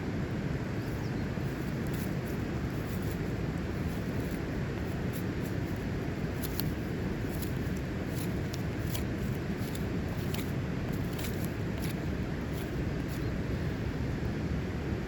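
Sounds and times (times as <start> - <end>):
low background rush: 0.0 - 15.0
campfire crackling: 0.5 - 14.0.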